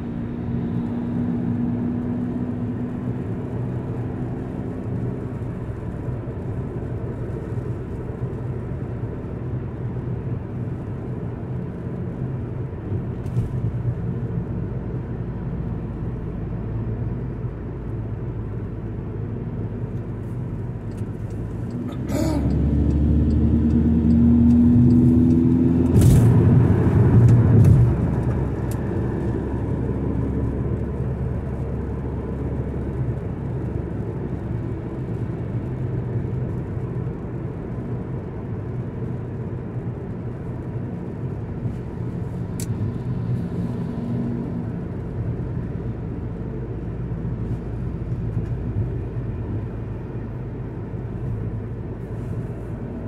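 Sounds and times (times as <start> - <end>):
car engine from inside cabin: 0.0 - 53.0
road noise: 0.0 - 53.0.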